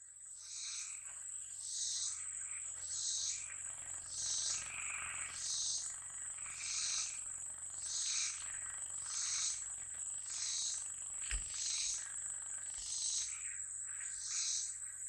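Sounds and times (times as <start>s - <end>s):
insect pulsing call: 0.0s - 15.0s
insects high-pitched buzz: 0.0s - 15.0s.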